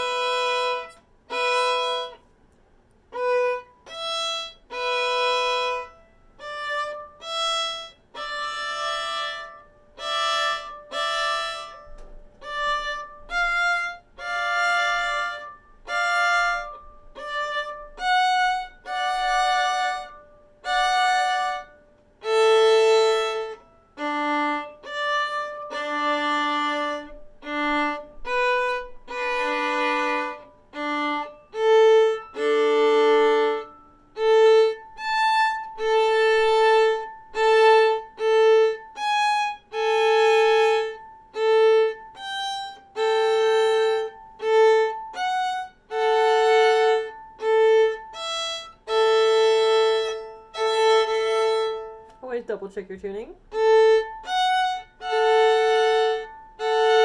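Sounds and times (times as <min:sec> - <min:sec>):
solo violin bowing: 0:00.0 - 0:02.3, 0:03.1 - 0:52.6, 0:53.4 - 0:57.0.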